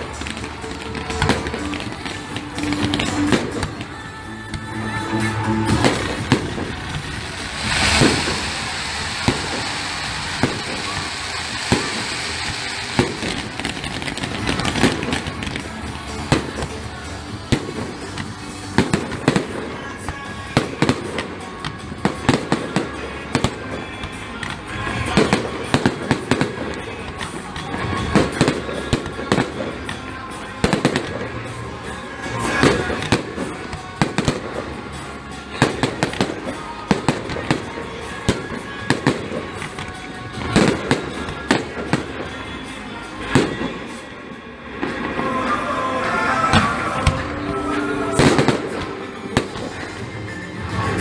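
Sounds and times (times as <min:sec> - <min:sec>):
fireworks bangs and crackles: 0:00.0 - 0:51.0
music: 0:00.0 - 0:51.0.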